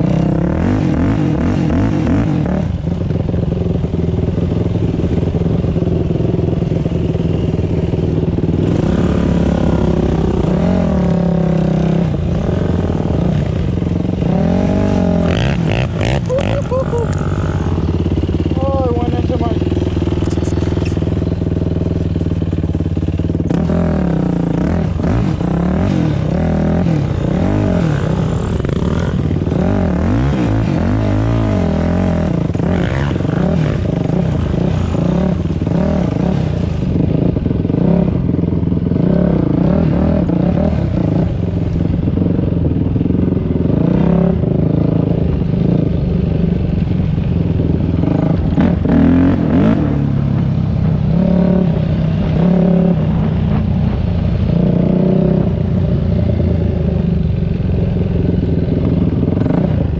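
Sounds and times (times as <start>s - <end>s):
dirt bike engine revving: 0.0s - 3.0s, 3.9s - 59.9s.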